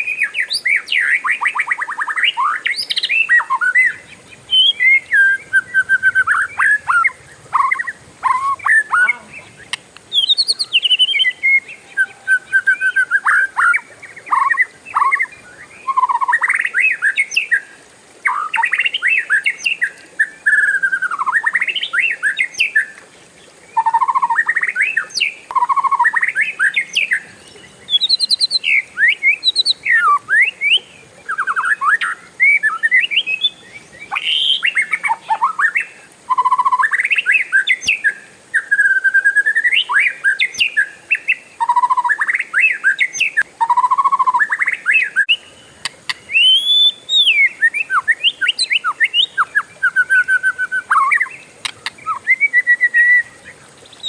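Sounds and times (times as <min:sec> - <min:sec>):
bird singing whistles and trills: 0:00.0 - 0:23.0, 0:23.7 - 0:54.0.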